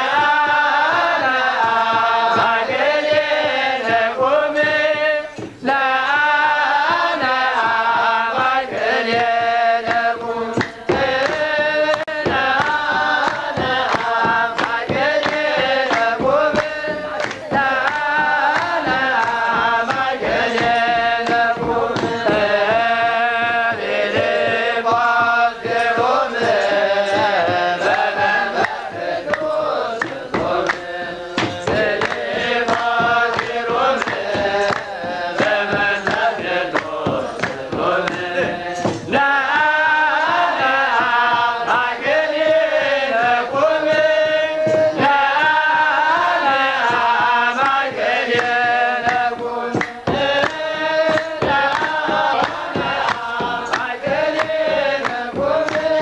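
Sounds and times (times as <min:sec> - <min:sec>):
male voices chanting a hymn: 0:00.0 - 0:56.0
struck percussion strokes: 0:00.0 - 0:56.0.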